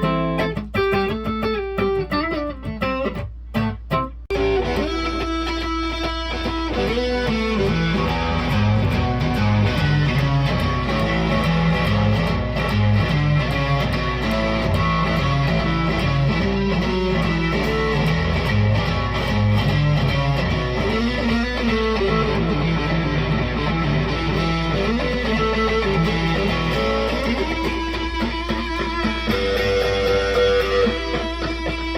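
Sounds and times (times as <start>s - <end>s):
electric guitar notes: 0.0s - 31.9s.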